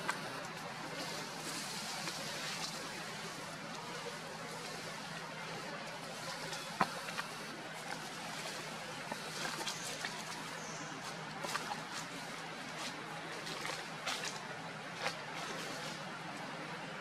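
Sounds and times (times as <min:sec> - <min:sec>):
faint clicks and rustles: 0:00.0 - 0:16.7
outdoor background hiss: 0:00.0 - 0:17.0.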